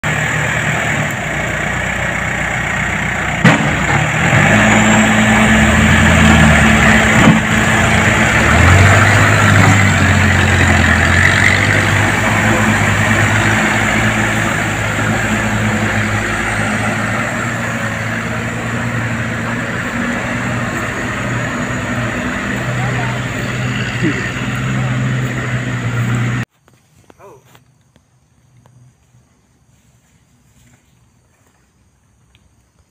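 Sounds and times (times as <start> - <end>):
diesel engine under heavy load: 0.0 - 26.5.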